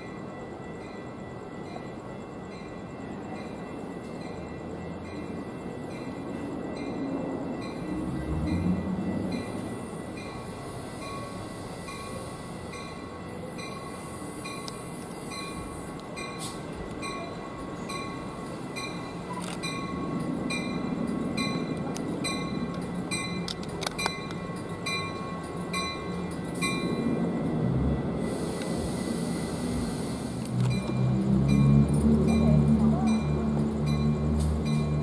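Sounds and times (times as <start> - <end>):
train rumbling into station: 0.0 - 35.0.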